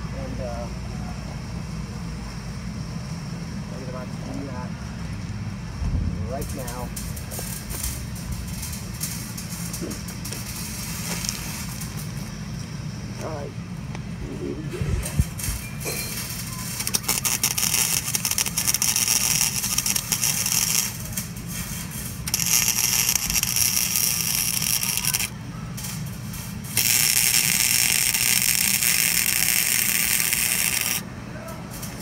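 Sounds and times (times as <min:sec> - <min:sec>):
steady low hum: 0:00.0 - 0:32.0
arc welder crackling and hissing: 0:01.5 - 0:32.0.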